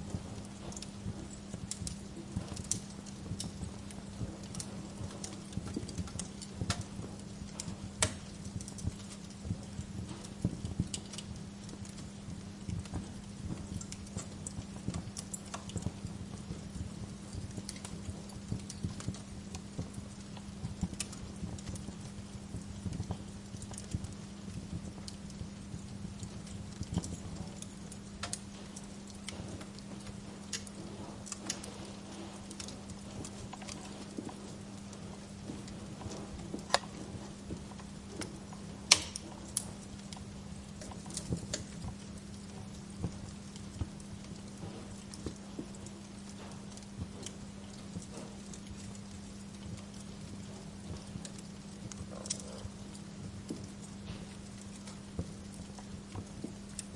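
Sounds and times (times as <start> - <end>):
fireplace fire crackling: 0.0 - 56.9.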